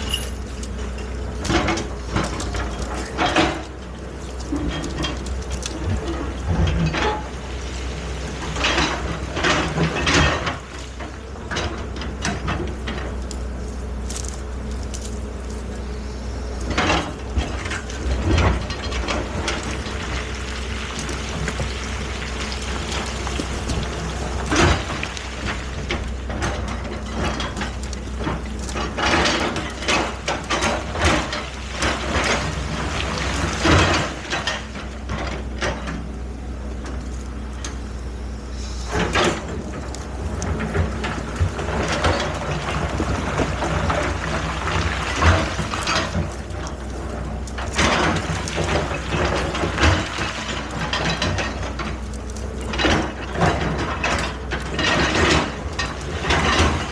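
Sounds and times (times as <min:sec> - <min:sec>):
metallic clanks and scraping: 0:00.0 - 0:07.6, 0:08.3 - 0:36.1, 0:38.5 - 0:56.9
excavator engine droning: 0:00.0 - 0:56.9.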